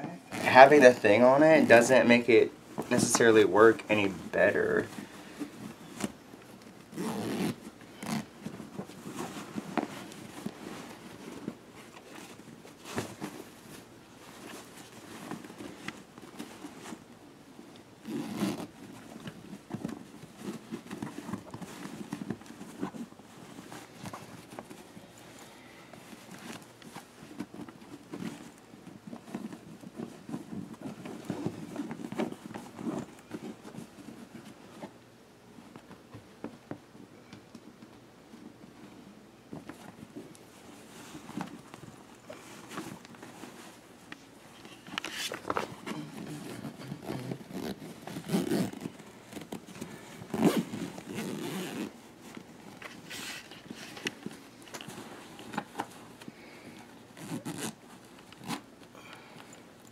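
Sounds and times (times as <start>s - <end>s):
rustling and scraping of handling: 0.0s - 59.9s.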